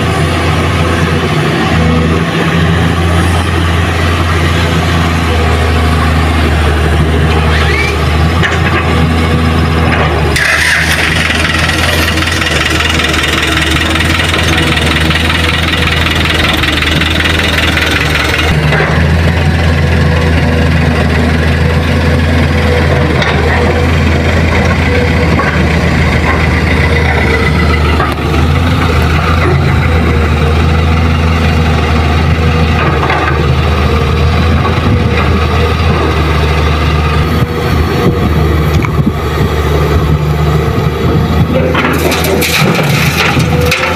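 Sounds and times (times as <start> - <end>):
heavy diesel engines droning: 0.0 - 43.9.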